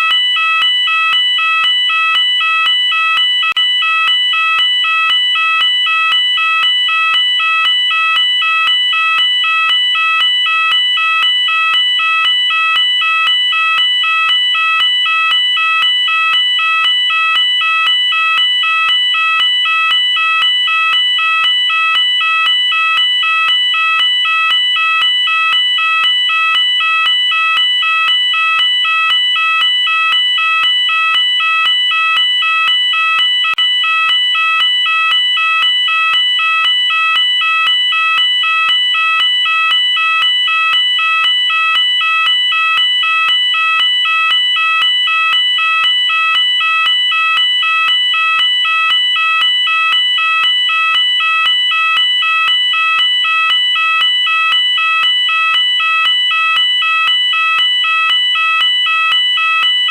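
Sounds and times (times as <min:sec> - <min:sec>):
two-tone fire alarm: 0:00.0 - 0:59.9.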